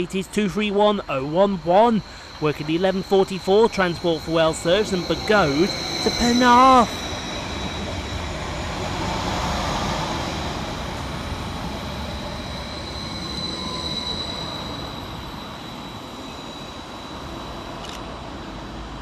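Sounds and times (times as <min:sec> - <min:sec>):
high wheel squeal: 0:00.0 - 0:18.6
train wheels rumbling on rails: 0:00.0 - 0:19.0.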